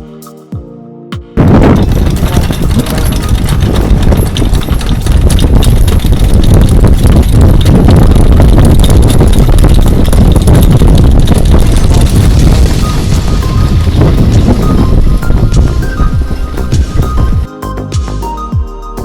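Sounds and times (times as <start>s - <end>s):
wind buffeting microphone: 1.4s - 17.5s.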